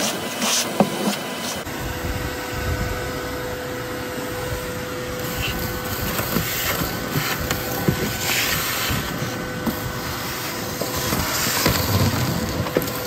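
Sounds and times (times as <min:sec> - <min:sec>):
vacuum running: 0:00.0 - 0:13.0.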